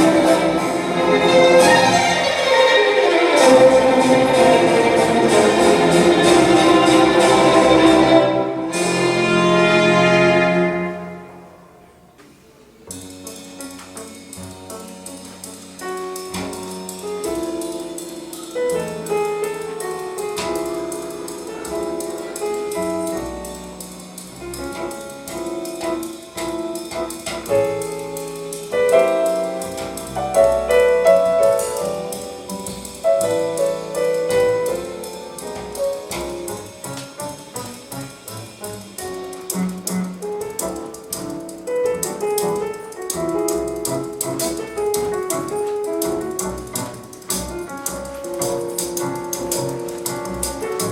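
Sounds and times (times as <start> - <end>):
piano music over loudspeakers: 0.0 - 50.9.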